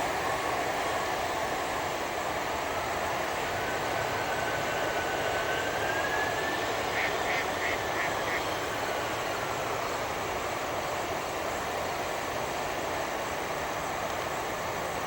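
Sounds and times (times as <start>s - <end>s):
jet engine whine: 0.0s - 15.0s.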